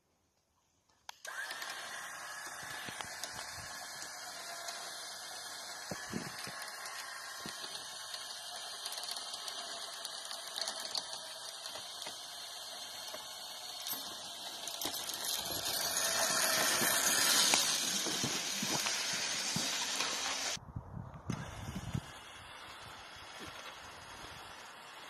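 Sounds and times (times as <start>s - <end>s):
steel cable hissing through pulleys: 1.2s - 20.6s, 21.4s - 25.0s.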